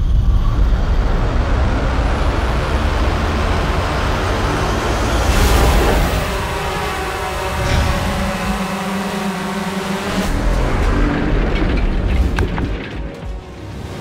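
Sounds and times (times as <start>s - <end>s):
drone rotors rumbling: 0.0s - 14.0s.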